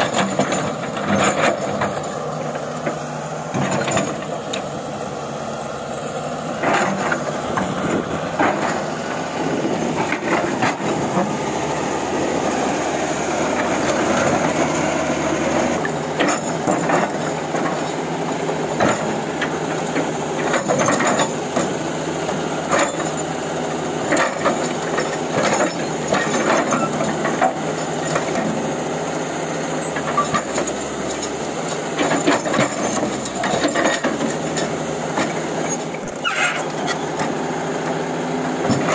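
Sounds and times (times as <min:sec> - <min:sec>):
excavator engine under load: 0:00.0 - 0:38.9.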